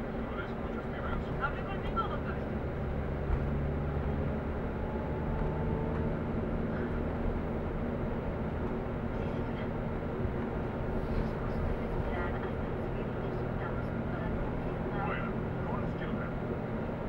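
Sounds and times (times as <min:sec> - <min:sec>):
engine hum inside vehicle: 0:00.0 - 0:17.0.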